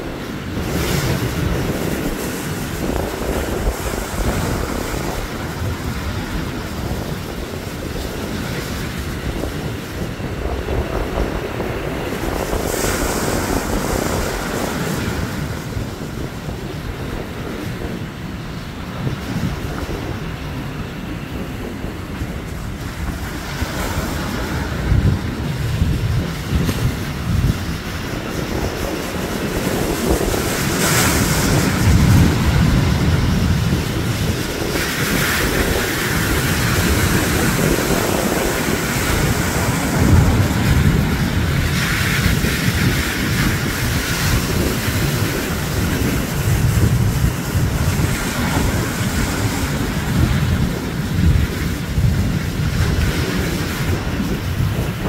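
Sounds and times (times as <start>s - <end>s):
surf breaking on rocks: 0.0s - 55.0s
wind buffeting microphone: 0.0s - 55.0s.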